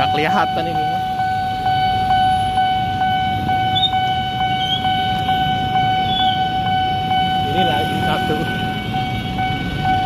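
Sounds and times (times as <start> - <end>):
idling road traffic rumble: 0.0 - 10.0
level crossing warning alarm: 0.0 - 10.0.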